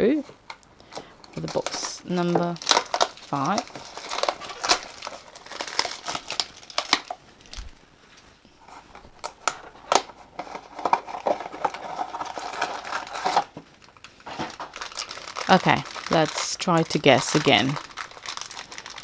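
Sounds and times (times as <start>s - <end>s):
plastic packaging crinkling and tearing: 0.5s - 19.0s.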